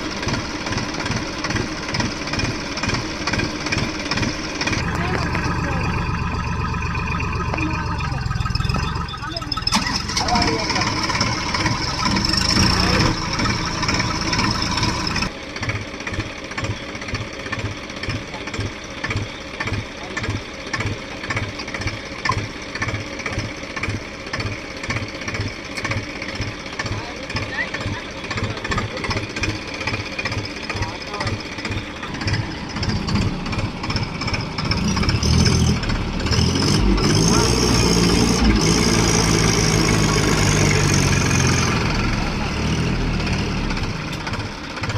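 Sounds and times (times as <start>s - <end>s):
diesel tractor engine running: 0.0s - 44.9s.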